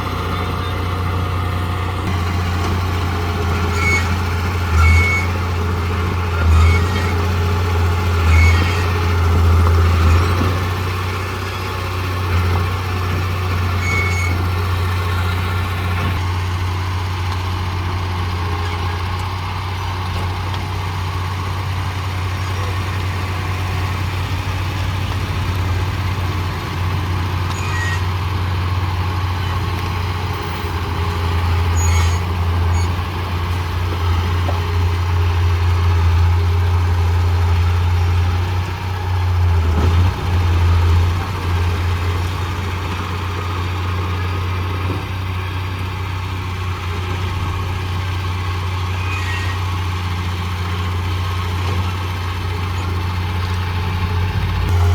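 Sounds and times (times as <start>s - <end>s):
heavy diesel engine drone: 0.0s - 54.9s.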